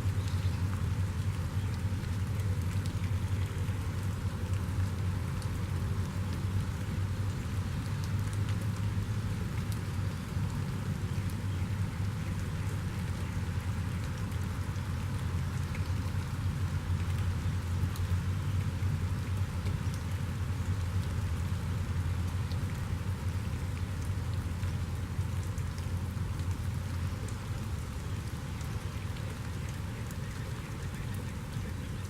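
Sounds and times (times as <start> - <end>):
steady rainfall: 0.0 - 32.0.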